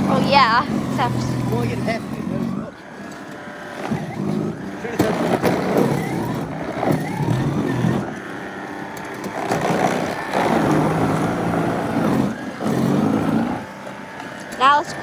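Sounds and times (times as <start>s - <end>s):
snowblower engine running: 0.0s - 15.0s.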